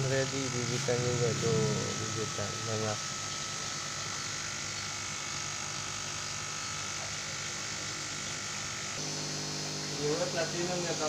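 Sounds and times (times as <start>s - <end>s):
thin steady hum: 0.0s - 11.0s.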